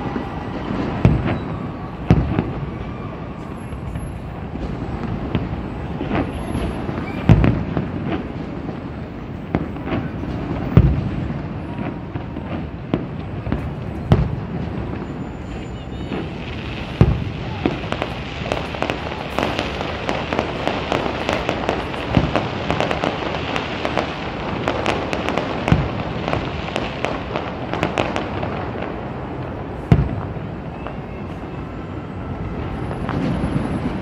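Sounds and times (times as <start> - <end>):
fireworks booms: 0.0 - 34.0
fireworks crackling: 0.0 - 34.0.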